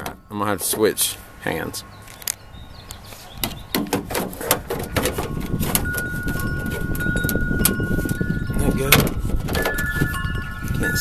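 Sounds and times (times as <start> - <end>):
wind rumbling on microphone: 1.8 - 11.0.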